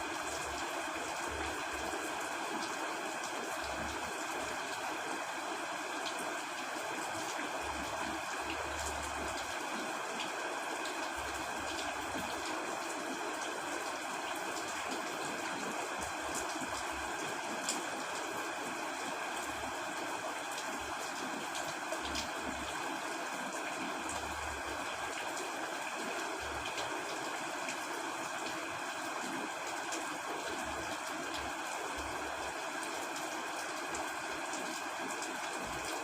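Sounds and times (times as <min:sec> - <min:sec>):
rain falling on a tent: 0:00.0 - 0:36.0.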